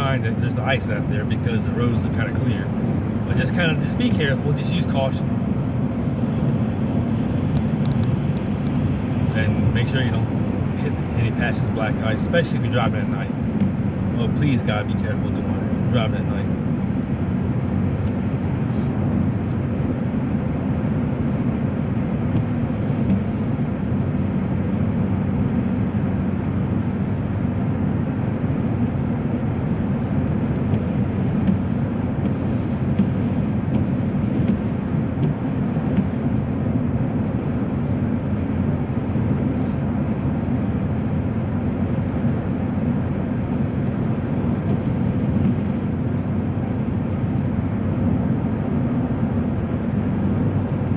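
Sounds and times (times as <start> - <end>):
car engine and tyre noise: 0.0 - 50.9.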